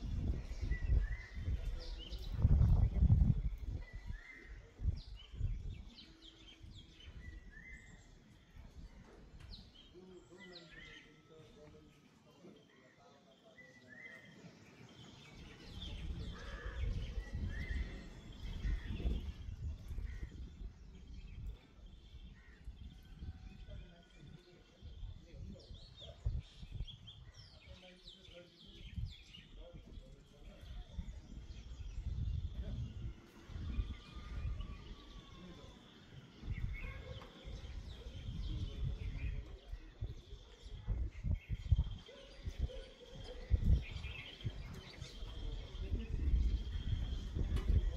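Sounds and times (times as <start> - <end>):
low rumble on microphone: 0.0 - 9.8, 15.3 - 27.6, 28.8 - 47.9
birds calling: 3.5 - 23.0, 26.2 - 47.9.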